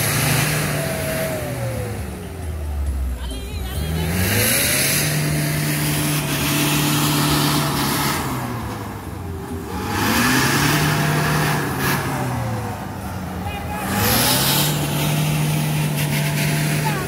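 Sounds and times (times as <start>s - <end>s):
off-road engine revving under load: 0.0s - 17.0s.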